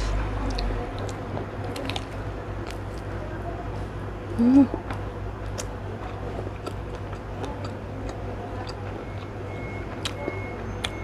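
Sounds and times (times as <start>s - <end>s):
person chewing: 0.0s - 3.1s, 4.5s - 9.4s, 10.0s - 11.0s
steady low hum: 0.0s - 11.0s.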